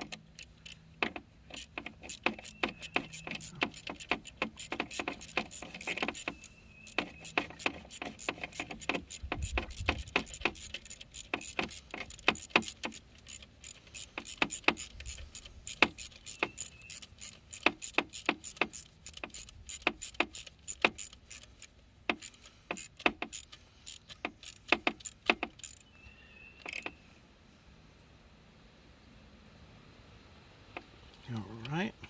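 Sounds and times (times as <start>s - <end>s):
ratchet wrench clicking: 0.0s - 25.9s, 26.6s - 26.9s.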